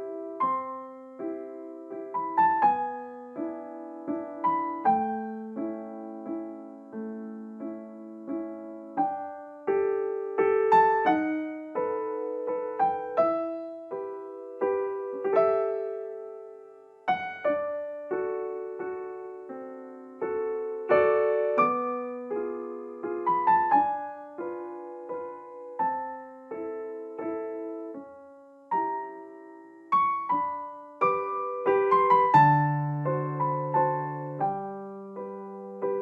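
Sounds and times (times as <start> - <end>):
solo piano melody: 0.0 - 36.0.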